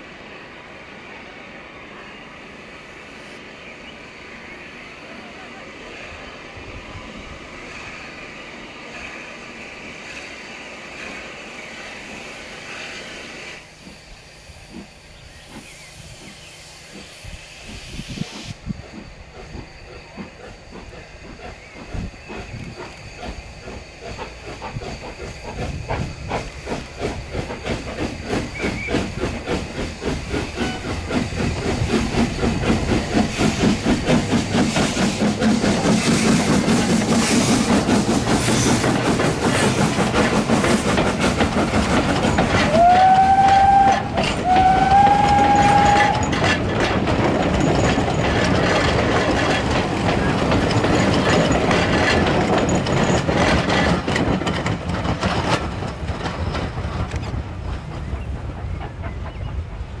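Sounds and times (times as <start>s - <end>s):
steam hissing from locomotive: 0.0s - 60.0s
steam locomotive exhaust beats: 6.1s - 60.0s.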